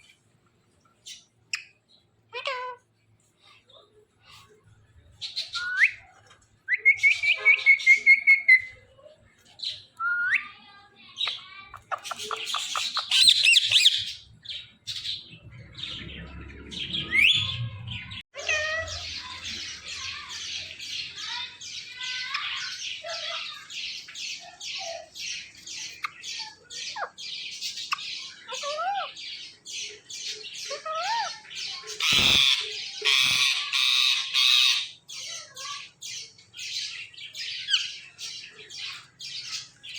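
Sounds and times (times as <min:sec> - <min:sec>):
parakeet calling and squawking: 0:01.0 - 0:02.9, 0:05.2 - 0:06.1, 0:06.7 - 0:08.8, 0:09.6 - 0:39.9.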